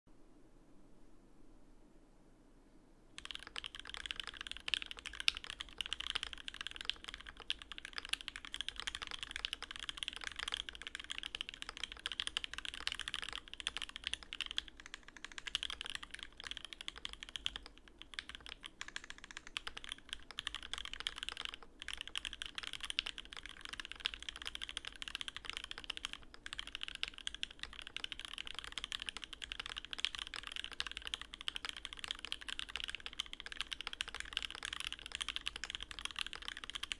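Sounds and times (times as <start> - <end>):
mechanical keyboard typing: 3.2 - 36.9.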